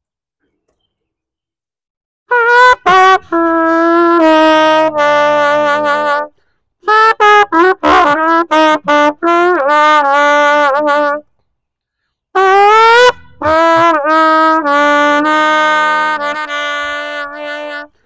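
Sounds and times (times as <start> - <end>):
solo trumpet melody: 2.3 - 11.3, 12.4 - 18.0.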